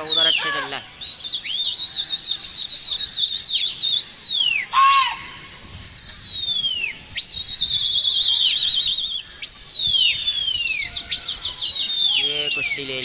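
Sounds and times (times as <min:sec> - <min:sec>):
high warbling whistle: 0:00.0 - 0:13.0.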